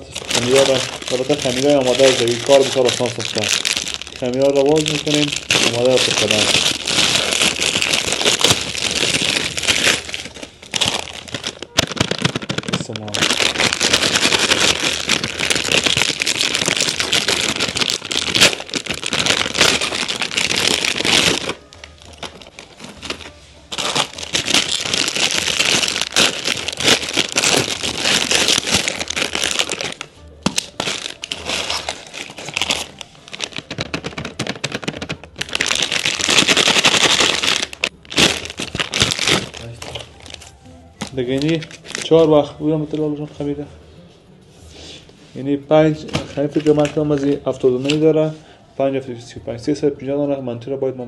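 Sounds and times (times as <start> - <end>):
plastic packaging crinkling: 0.0 - 43.3, 45.8 - 48.4.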